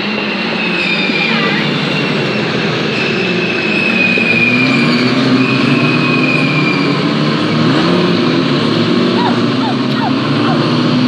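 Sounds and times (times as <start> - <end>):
race cars passing at speed: 0.0 - 11.0.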